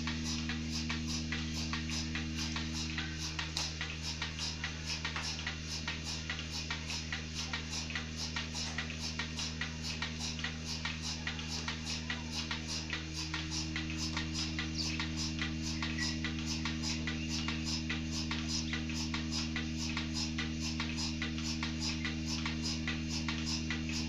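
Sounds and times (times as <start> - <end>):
milking machine pulsator clicking: 0.0 - 24.0
vacuum pump hum: 0.0 - 24.0.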